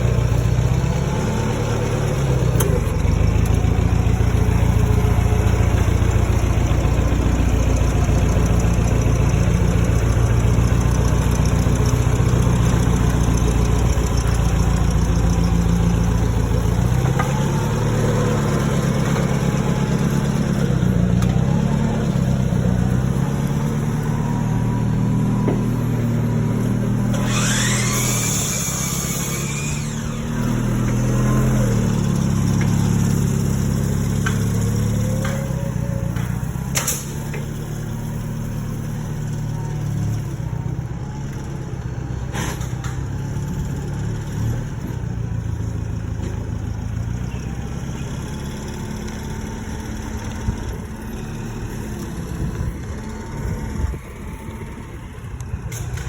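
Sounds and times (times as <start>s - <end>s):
large engine running: 0.0s - 56.0s.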